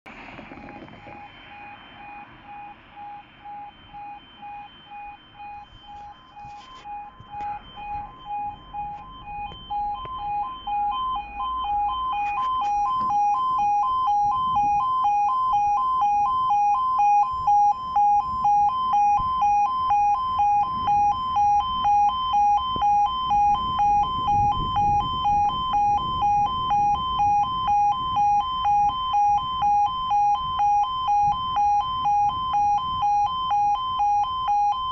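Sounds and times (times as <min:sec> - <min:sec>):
level crossing warning alarm: 0:00.1 - 0:34.9.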